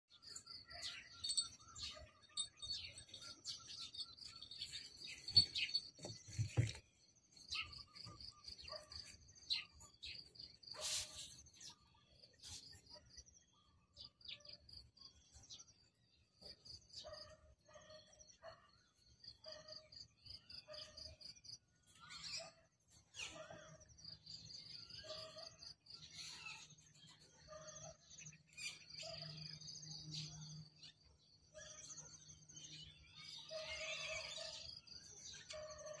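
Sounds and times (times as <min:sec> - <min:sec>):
small birds chirping: 0:00.1 - 0:36.0.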